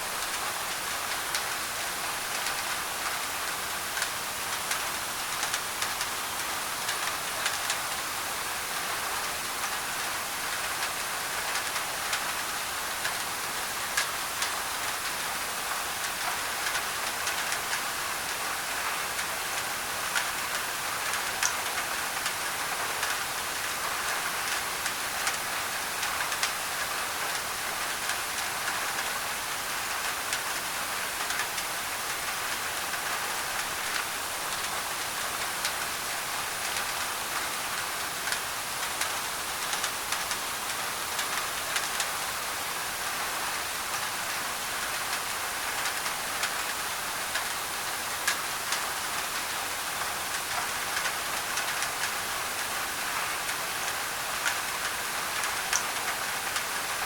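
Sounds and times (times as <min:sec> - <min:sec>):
rain on a tin roof: 0:00.0 - 0:57.0
white noise hiss: 0:00.0 - 0:57.0.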